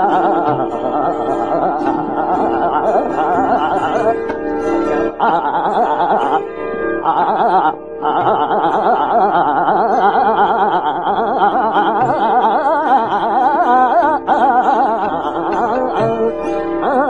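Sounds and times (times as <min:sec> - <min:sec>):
man singing fast vocal runs: 0:00.0 - 0:04.4, 0:07.0 - 0:17.0.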